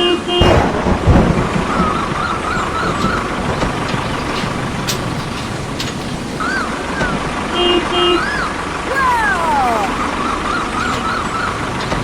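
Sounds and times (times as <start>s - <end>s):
steady rain: 0.0s - 12.0s
thunder rumbling: 0.0s - 12.0s
wavering high warble: 0.4s - 11.8s.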